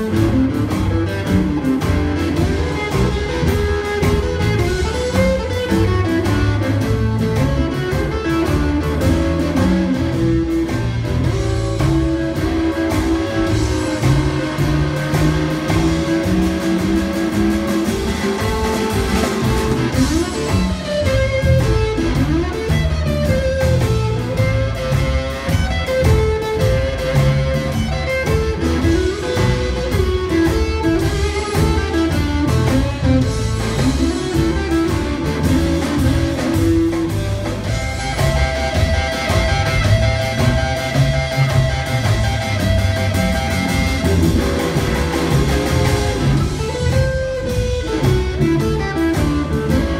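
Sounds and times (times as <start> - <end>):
electric blues band playing: 0.0 - 49.9
sliding guitar melody notes: 0.0 - 49.9.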